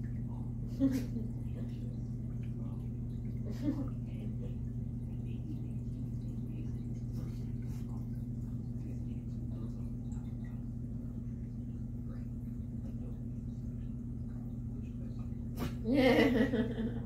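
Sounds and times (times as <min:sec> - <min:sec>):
water trickling and dripping: 0:00.0 - 0:15.8
aquarium pump humming: 0:00.0 - 0:17.0.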